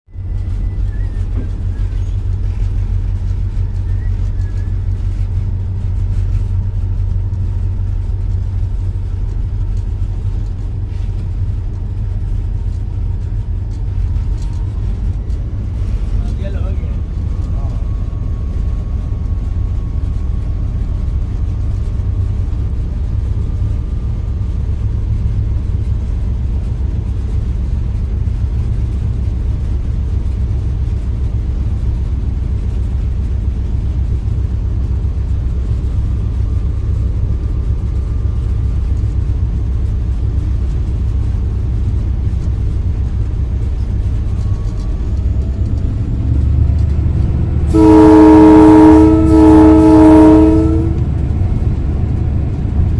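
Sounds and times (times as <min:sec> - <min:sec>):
locomotive engine rumble: 0:00.1 - 0:52.9
wheels on the track: 0:00.1 - 0:52.9.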